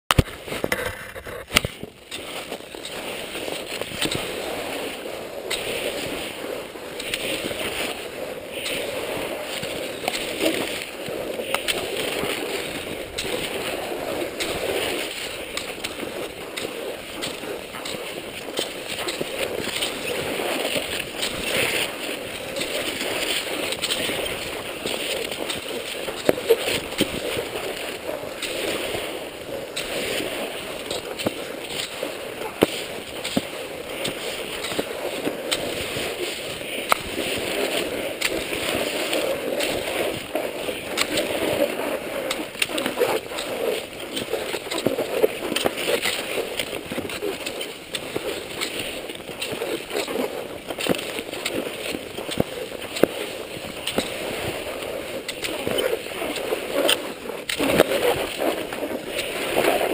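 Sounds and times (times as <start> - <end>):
ski poles clicking: 0.1 - 59.9
skis sliding on snow: 0.1 - 59.9.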